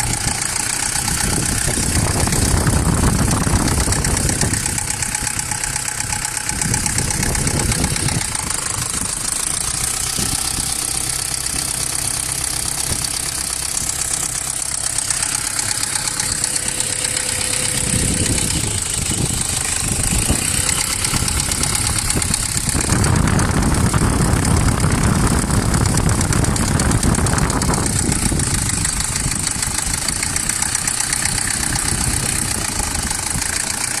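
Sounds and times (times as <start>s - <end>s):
engine running with rattling knock: 0.0s - 34.0s.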